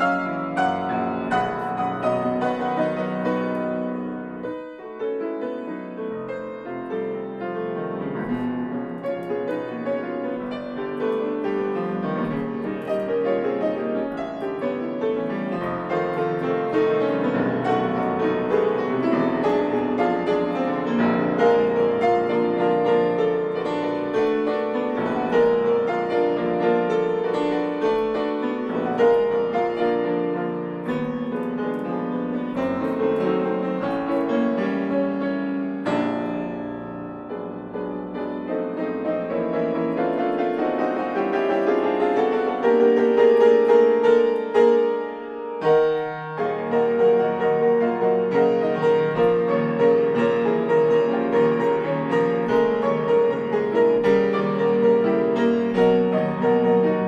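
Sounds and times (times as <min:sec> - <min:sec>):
solo piano classical music: 0:00.0 - 0:57.0.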